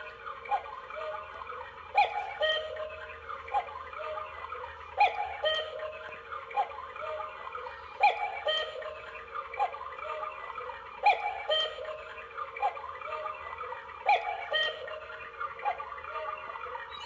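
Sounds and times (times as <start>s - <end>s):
cuckoo clock call: 0.0s - 17.0s.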